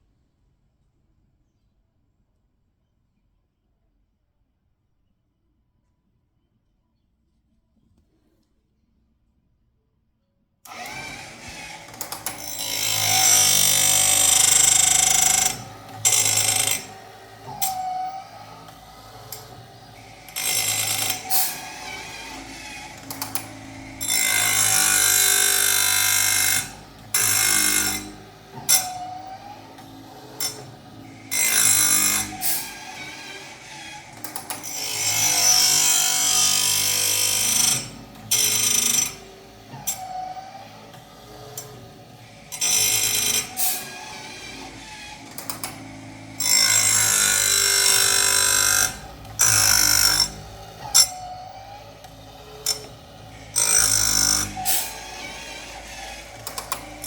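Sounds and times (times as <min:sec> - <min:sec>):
grinding wheel grinding chain: 0:10.7 - 0:57.0
motor humming: 0:10.7 - 0:57.0.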